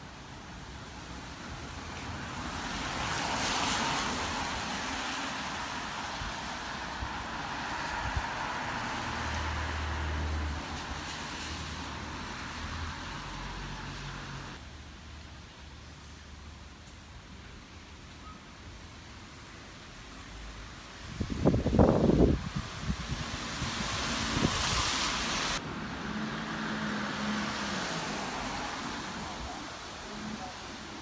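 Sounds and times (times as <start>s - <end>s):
tyre hiss on wet road: 0.0s - 31.0s.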